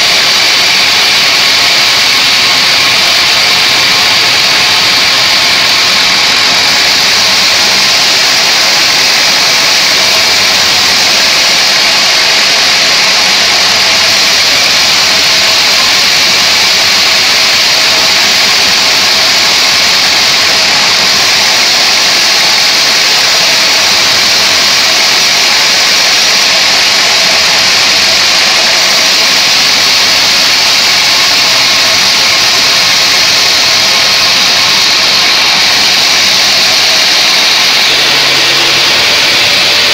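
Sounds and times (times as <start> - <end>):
bandsaw machine drone: 0.0 - 39.9
saw blade hissing through log: 0.0 - 39.9.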